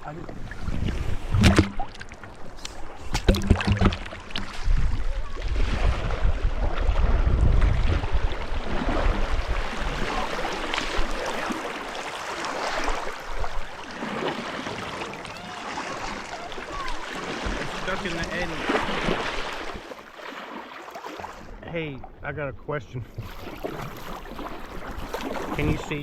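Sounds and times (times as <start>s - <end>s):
river water rushing and splashing: 0.0s - 21.5s.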